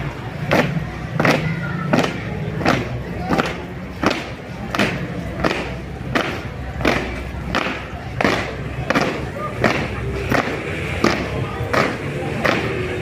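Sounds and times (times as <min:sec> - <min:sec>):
marching footsteps on paving: 0:00.0 - 0:13.0.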